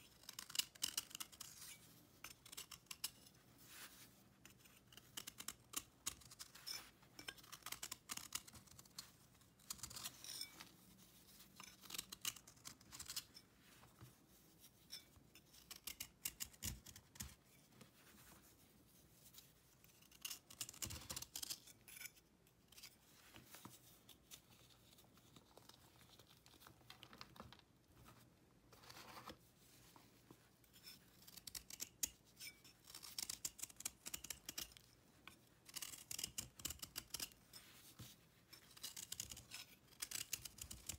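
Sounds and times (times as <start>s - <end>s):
knife scraping dry paste: 0.0s - 18.3s, 19.2s - 25.8s, 30.7s - 40.9s.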